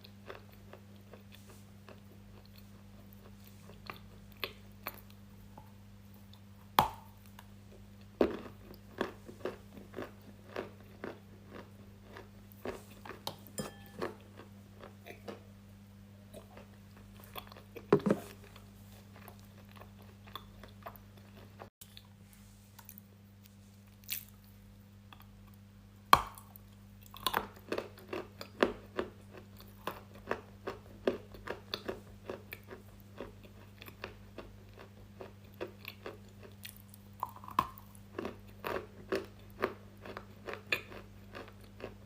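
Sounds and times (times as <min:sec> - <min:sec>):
person chewing crunchy food: 0:00.0 - 0:15.6, 0:16.2 - 0:25.6, 0:26.2 - 0:42.0.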